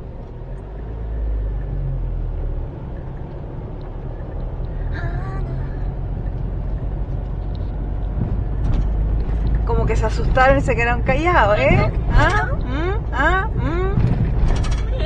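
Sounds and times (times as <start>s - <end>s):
car engine and tyres droning: 0.0s - 15.0s.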